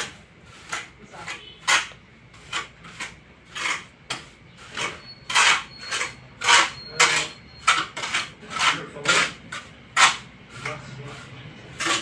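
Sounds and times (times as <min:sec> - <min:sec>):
trowel scraping tile adhesive: 0:00.0 - 0:12.0.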